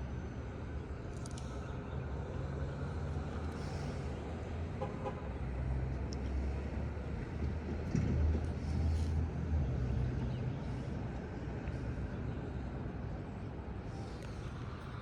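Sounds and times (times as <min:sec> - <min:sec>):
low engine rumble: 0:00.2 - 0:15.0.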